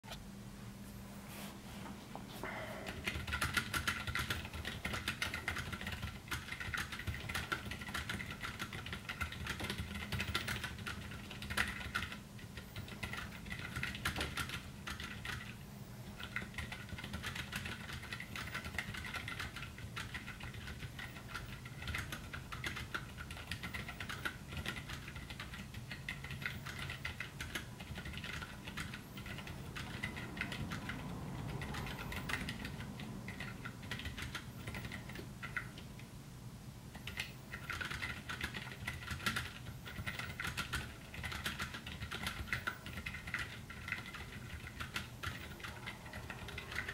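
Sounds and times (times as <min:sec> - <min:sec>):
typing on mechanical keyboard: 0:02.9 - 0:36.0, 0:36.9 - 0:46.9.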